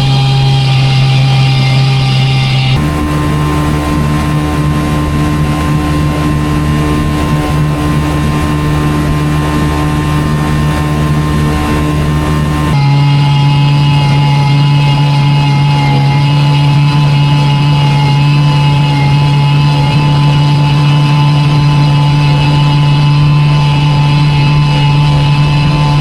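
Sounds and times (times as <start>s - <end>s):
boat motor running steadily: 0.0s - 26.0s.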